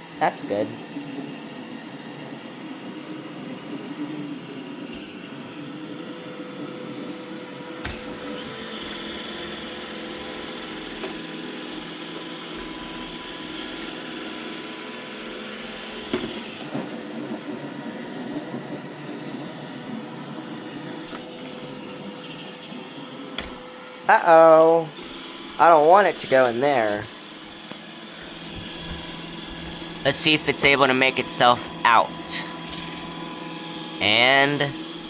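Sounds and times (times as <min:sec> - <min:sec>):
robot vacuum motor hum: 0:00.7 - 0:35.0.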